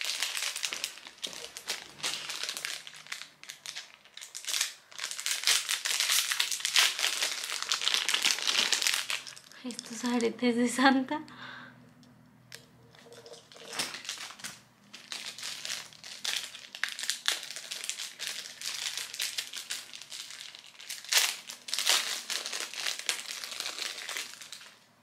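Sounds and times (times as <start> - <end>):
plastic packaging crinkling: 0.0 - 10.3, 12.5 - 25.0.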